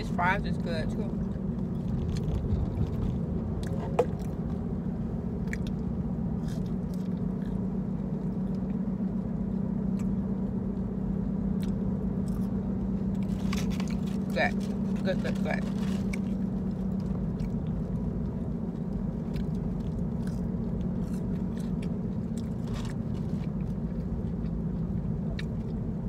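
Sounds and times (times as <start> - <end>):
car engine and road drone: 0.0 - 26.0
person chewing food: 1.2 - 15.0, 15.6 - 26.0.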